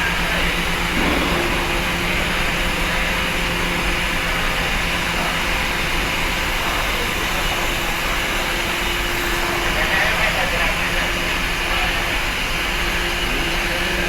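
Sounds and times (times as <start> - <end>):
engine and machinery drone: 0.0 - 14.0.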